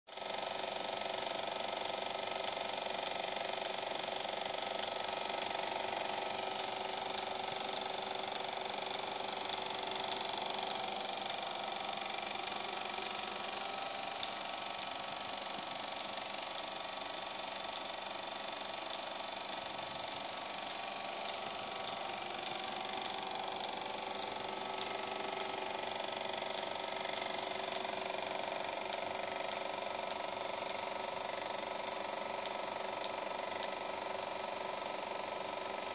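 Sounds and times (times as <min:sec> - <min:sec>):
film projector clatter: 0:00.1 - 0:35.9
motor whir: 0:00.2 - 0:35.9.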